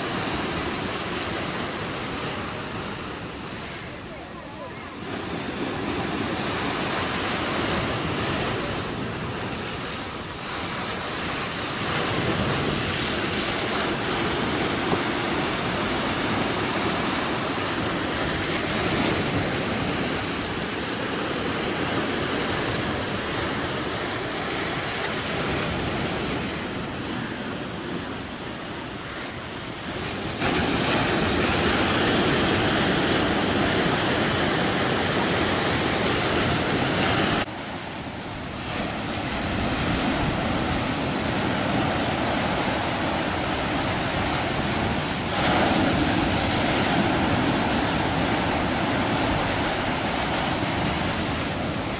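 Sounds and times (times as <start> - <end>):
surf washing over rocks: 0.0 - 51.9.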